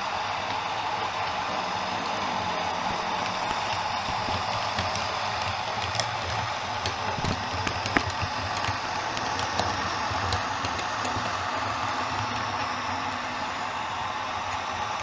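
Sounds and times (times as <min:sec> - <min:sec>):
model train running hum: 0:00.0 - 0:15.0.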